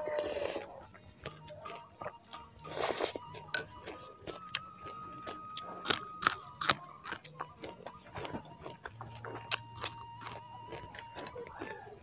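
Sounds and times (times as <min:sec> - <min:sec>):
close chewing mouth smacks: 0:00.1 - 0:12.0.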